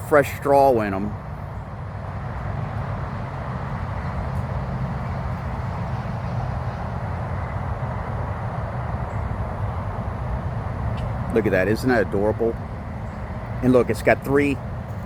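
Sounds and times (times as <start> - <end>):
highway traffic rumble: 0.0 - 15.0.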